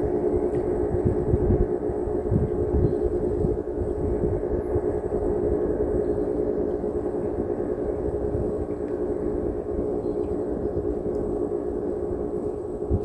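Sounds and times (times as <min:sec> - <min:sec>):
engine droning: 0:00.0 - 0:13.0
low rumble: 0:00.0 - 0:13.0.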